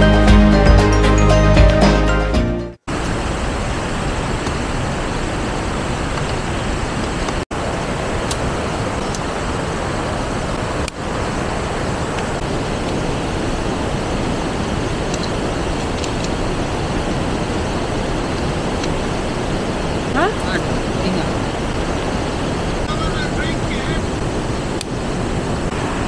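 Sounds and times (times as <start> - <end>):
river flowing over rocks: 2.9 - 26.0.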